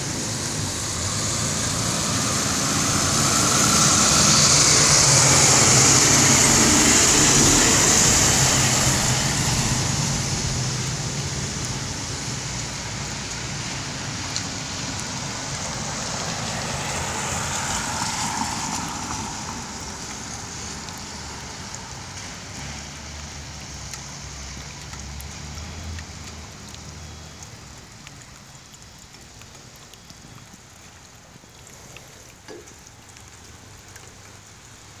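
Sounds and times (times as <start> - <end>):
tyres hissing on wet pavement: 0.0 - 35.0.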